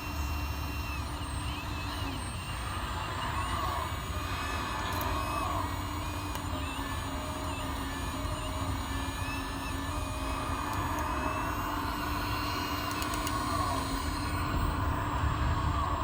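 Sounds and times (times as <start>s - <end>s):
hydraulic pump whine: 0.0s - 16.0s
steady low hum: 0.0s - 16.0s.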